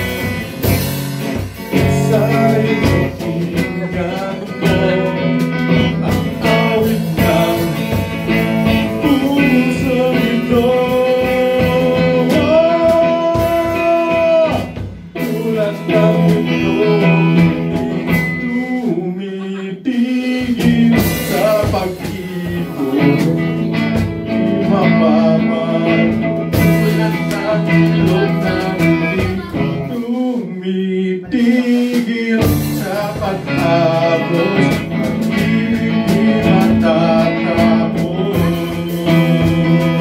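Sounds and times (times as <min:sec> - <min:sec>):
amplified electric guitar: 0:00.0 - 0:40.0
man singing a ballad: 0:00.0 - 0:40.0.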